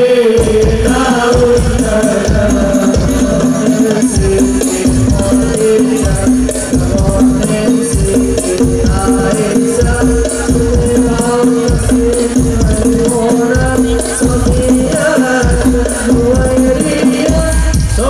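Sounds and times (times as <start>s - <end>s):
people singing: 0.0s - 18.0s
frame drums and jingles: 0.2s - 18.0s.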